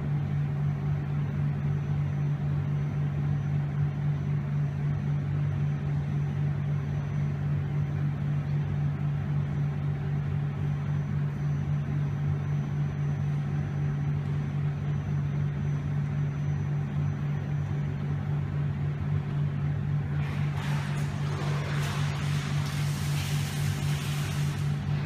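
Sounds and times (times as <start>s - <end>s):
low machinery hum: 0.0s - 25.0s.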